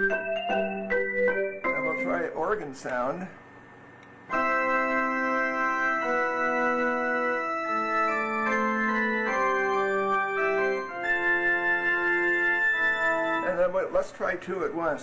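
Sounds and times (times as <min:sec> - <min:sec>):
held organ chords: 0:00.0 - 0:03.4, 0:04.2 - 0:15.0.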